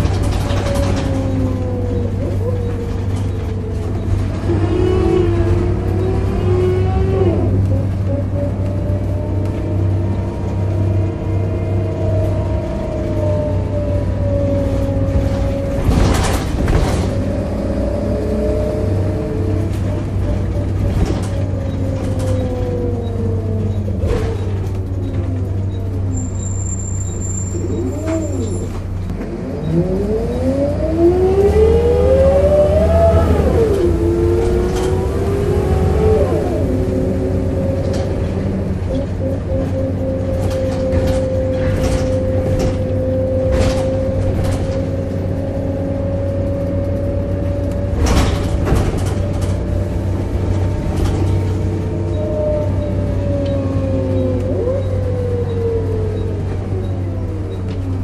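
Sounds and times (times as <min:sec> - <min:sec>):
bus diesel engine rumbling: 0:00.0 - 0:58.0
groaning whine: 0:00.0 - 0:58.0.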